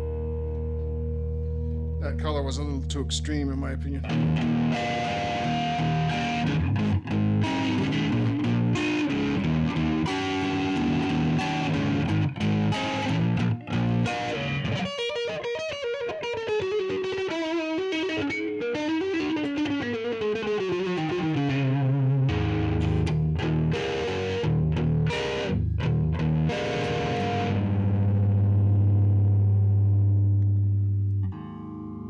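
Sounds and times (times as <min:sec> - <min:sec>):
electric guitar with flanger: 0:00.0 - 0:32.0.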